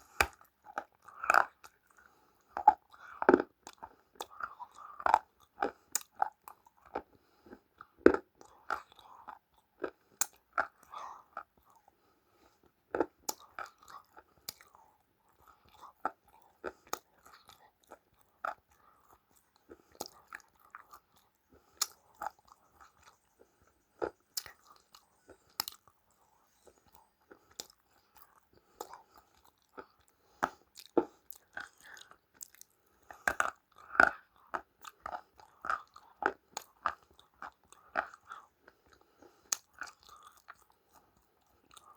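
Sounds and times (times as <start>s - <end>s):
chewing crunchy food: 0.0s - 41.9s.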